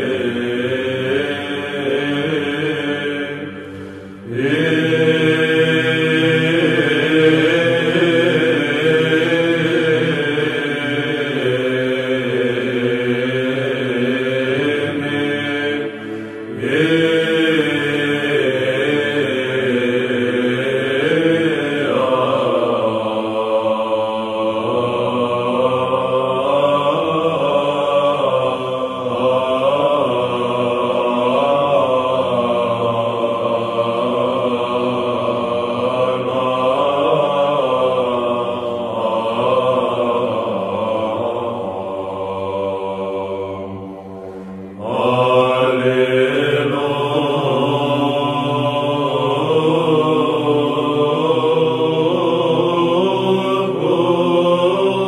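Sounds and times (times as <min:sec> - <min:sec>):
choir chanting slow melody: 0:00.0 - 0:55.0.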